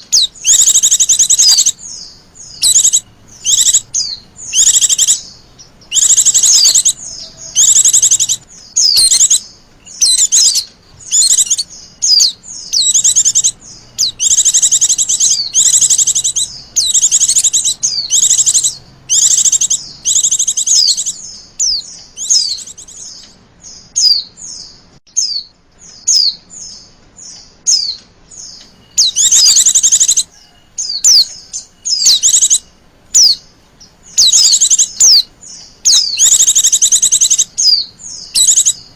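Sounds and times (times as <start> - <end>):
bird chattering calls: 0.0 - 23.4, 26.0 - 38.9
thin bird chirps: 0.0 - 38.9.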